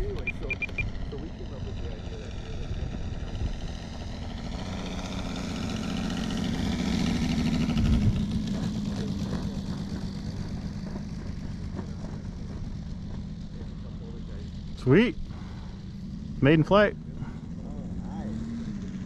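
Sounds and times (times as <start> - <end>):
model aircraft engine running: 0.0 - 19.0.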